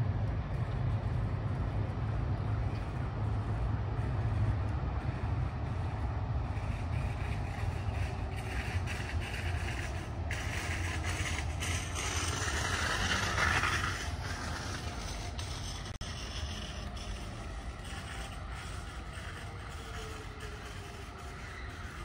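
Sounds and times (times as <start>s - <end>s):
distant train rumble and hiss: 0.0s - 22.0s.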